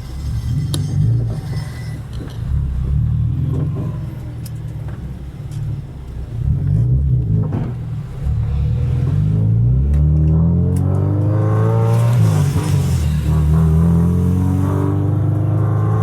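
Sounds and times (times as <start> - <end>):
car engine revving: 2.0 - 16.0.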